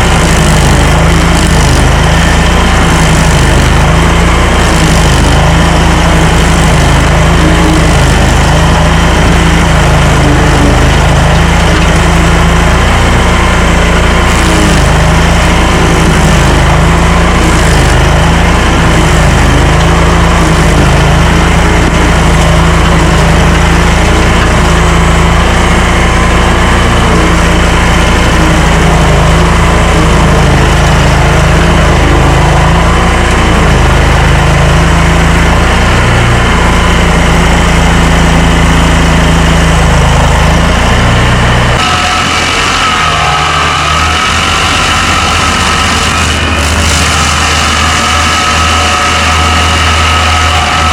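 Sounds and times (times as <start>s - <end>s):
stump grinder engine under load: 0.0s - 50.9s.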